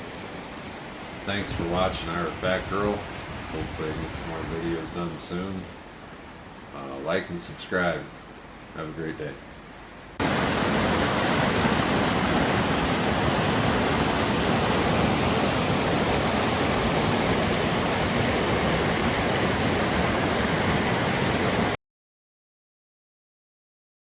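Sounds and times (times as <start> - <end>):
creek water rushing: 0.0 - 21.8.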